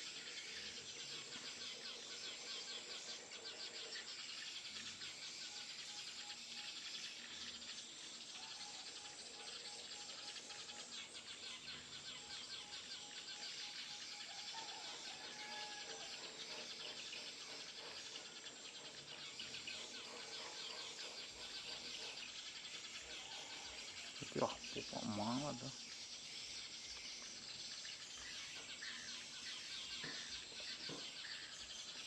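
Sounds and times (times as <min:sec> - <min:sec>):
bird chirps: 0:00.0 - 0:32.0
insects chirring: 0:00.0 - 0:32.0.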